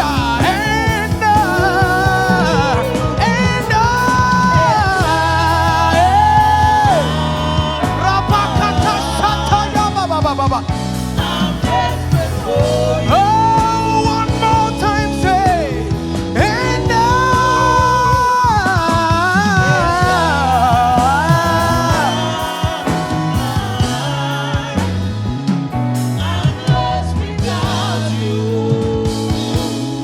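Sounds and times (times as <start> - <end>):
band playing bass and keys: 0.0 - 30.0.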